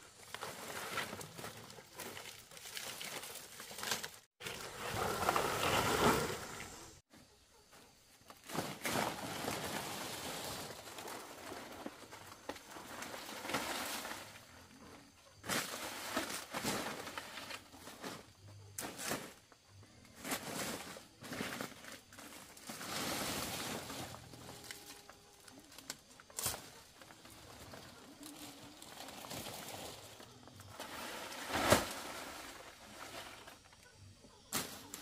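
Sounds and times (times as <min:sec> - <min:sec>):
palm fronds rustling and scraping: 0:00.1 - 0:07.0, 0:08.2 - 0:35.0.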